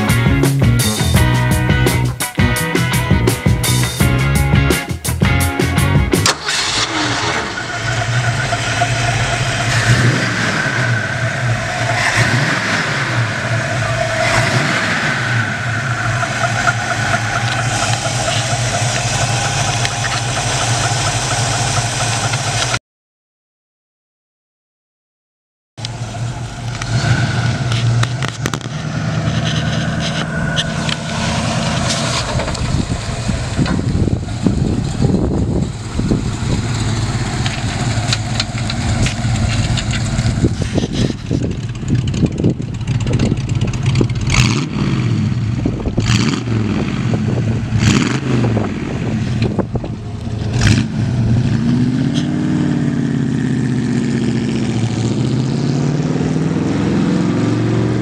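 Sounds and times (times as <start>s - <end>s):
car engine accelerating: 0.0s - 22.8s, 25.8s - 58.0s
sharp exhaust cracks: 4.9s - 22.8s, 25.8s - 56.4s.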